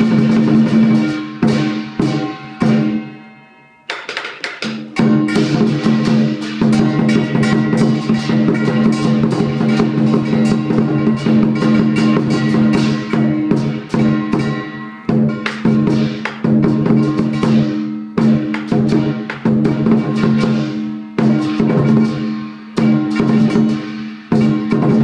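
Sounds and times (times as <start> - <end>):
large drum beating: 0.0 - 3.2, 4.2 - 25.0
cymbals clashing: 0.0 - 25.0
gong: 0.0 - 25.0.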